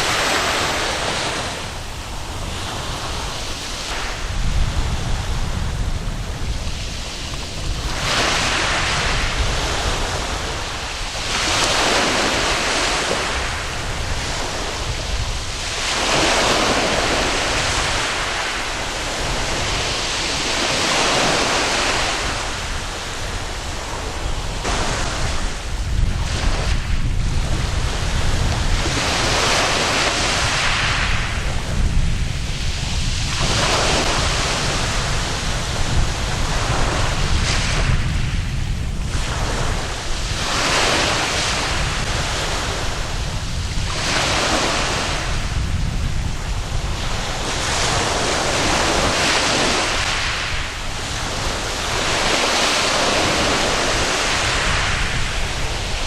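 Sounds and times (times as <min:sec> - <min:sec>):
waves washing on sandy beach: 0:00.0 - 0:56.0
wind rumbling on microphone: 0:00.0 - 0:56.0.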